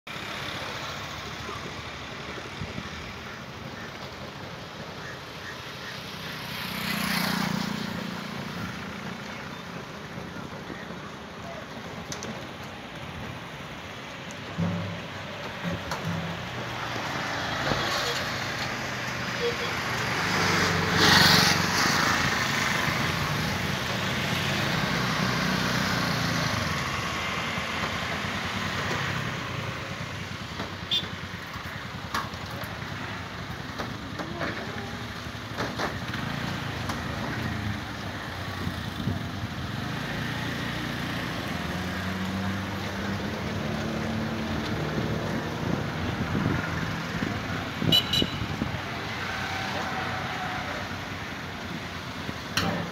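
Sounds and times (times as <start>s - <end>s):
motorcycle traffic: 0.1s - 52.9s.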